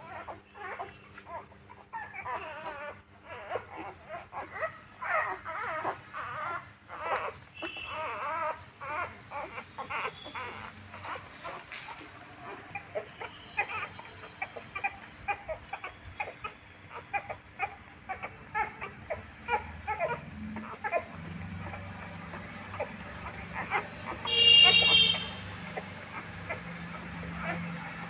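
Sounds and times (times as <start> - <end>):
puppies squeaking and whimpering: 0.0 - 28.0.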